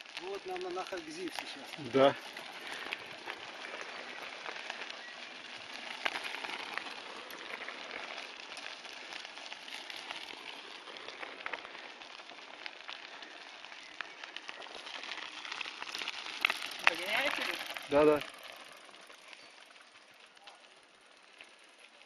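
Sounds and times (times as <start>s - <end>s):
bicycle tyres rolling on gravel: 0.0s - 22.0s.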